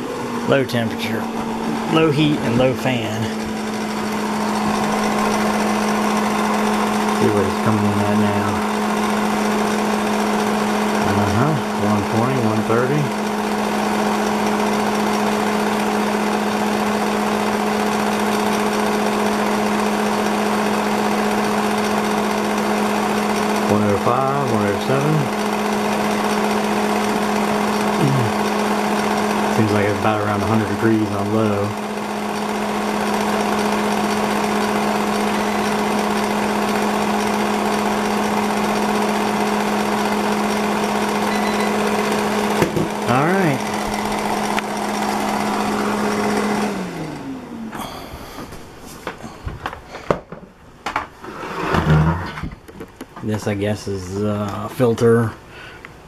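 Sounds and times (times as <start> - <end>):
hair dryer running: 0.0 - 49.2
motor hum: 0.0 - 56.0.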